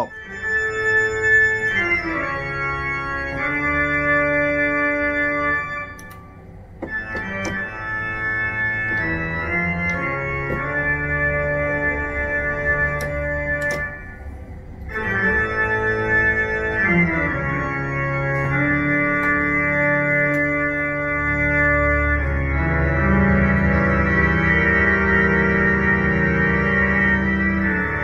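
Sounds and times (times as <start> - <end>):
pipe organ chords: 0.0 - 28.0.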